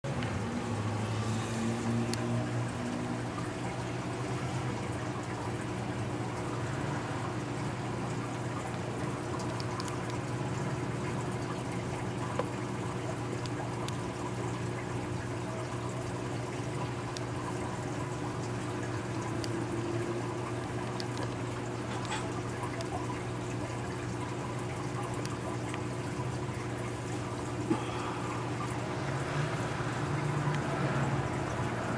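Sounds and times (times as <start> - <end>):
low steady hum: 0.1 - 31.9
water trickling and splashing: 0.1 - 31.9.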